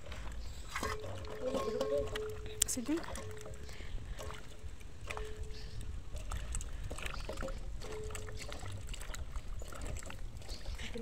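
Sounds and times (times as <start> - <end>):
potatoes sloshing in water basin: 0.0 - 11.0.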